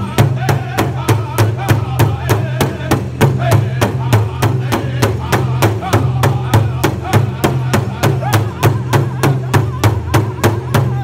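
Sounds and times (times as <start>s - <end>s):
large drum beating: 0.0s - 11.0s
men singing high-pitched: 0.0s - 11.0s.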